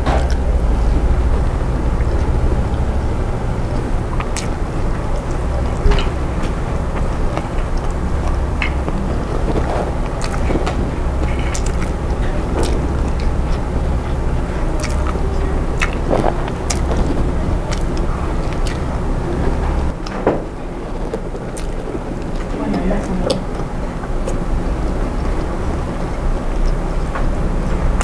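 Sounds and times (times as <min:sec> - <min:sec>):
chewing with wet smacks: 0:00.0 - 0:28.0
low hum: 0:00.0 - 0:28.0.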